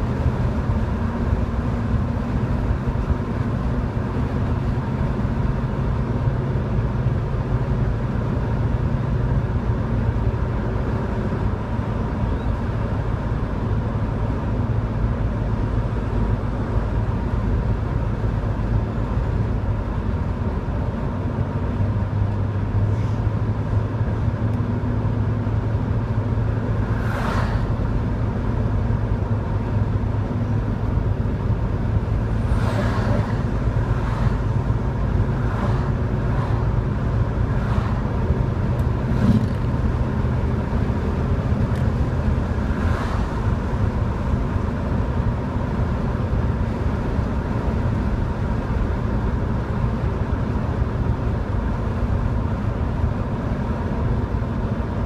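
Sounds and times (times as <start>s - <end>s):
car engine drone: 0.0s - 55.0s
oncoming traffic passing: 0.0s - 55.0s
road noise: 0.0s - 55.0s.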